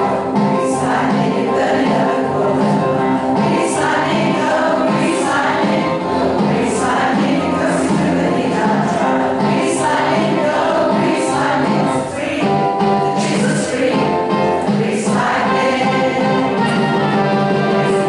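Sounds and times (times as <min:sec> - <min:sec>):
choir singing: 0:00.0 - 0:18.0
repeating bass line accompaniment: 0:00.0 - 0:18.0.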